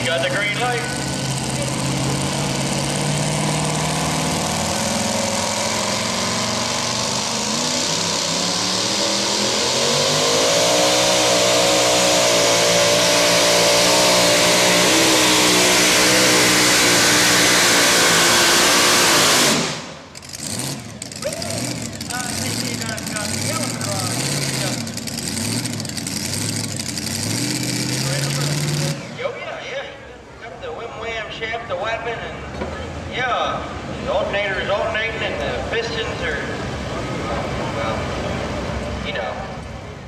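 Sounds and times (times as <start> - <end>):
truck engine at full throttle: 0.0 - 30.6, 32.0 - 40.0.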